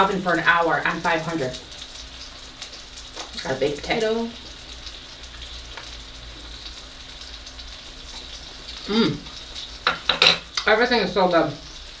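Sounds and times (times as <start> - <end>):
meat sizzling on hot stone: 0.0 - 12.0.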